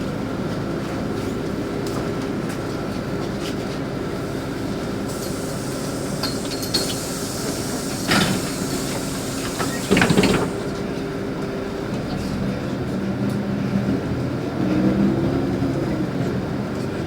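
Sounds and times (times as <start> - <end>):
bus engine and road noise: 0.0 - 17.0.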